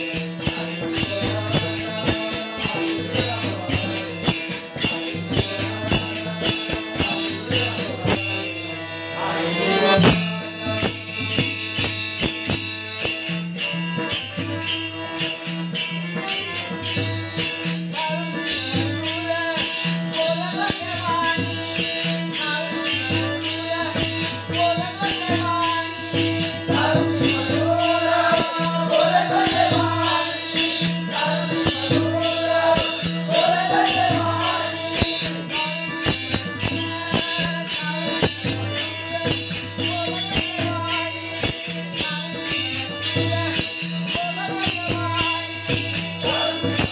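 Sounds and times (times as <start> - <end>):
hand cymbals beating: 0.0 - 8.5, 10.0 - 46.9
man singing: 0.0 - 8.6, 9.2 - 10.9, 13.6 - 46.9.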